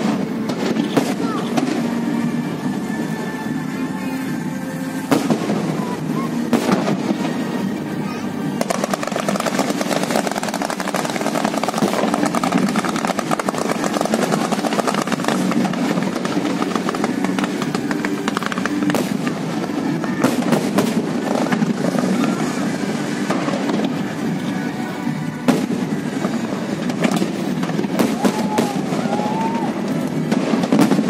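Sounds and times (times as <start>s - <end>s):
sharp firework cracks: 0.0s - 2.0s, 5.1s - 24.3s, 25.4s - 31.0s
fireworks crackling: 0.0s - 31.0s.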